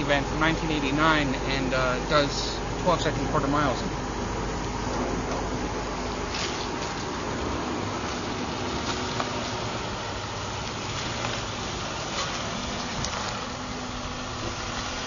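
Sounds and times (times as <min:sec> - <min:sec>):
vehicle cabin hiss and rumble: 0:00.0 - 0:15.0.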